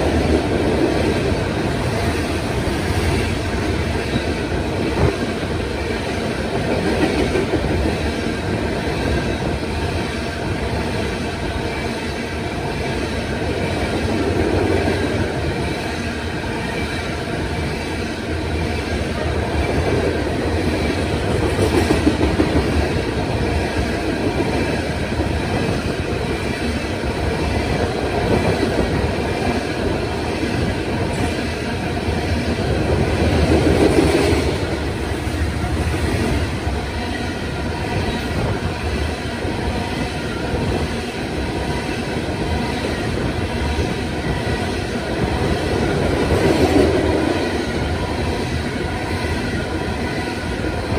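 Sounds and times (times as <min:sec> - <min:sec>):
train wheels clattering on rails: 0:00.0 - 0:50.9.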